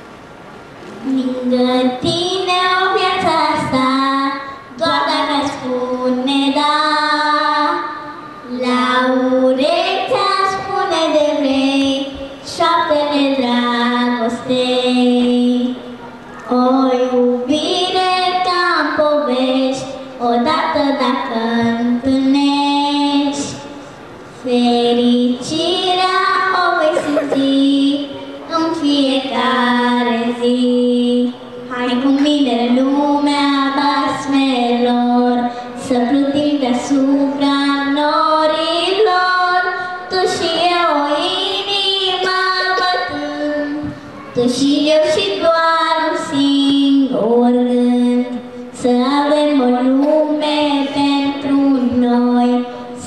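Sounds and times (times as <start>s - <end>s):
girl singing a cappella: 0.9s - 53.0s.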